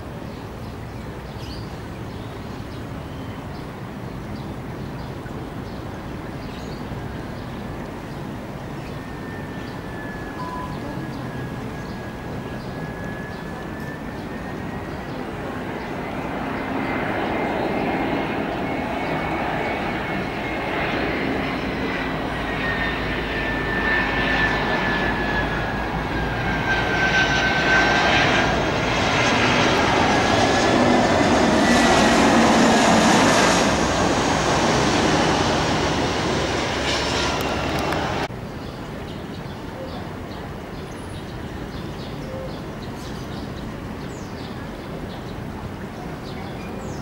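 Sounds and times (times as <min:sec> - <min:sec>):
airliner engine roar and whine: 0:00.0 - 0:47.0.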